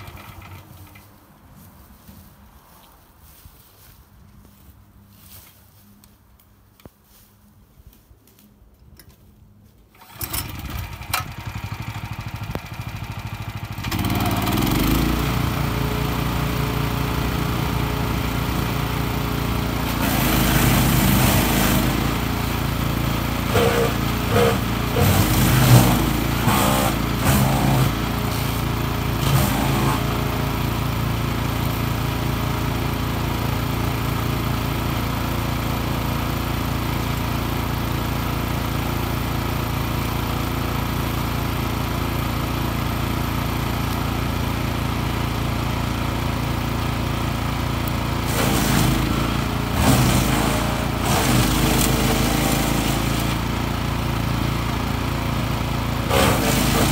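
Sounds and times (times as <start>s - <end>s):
wood chipper engine running: 0.0s - 1.7s, 9.9s - 56.9s.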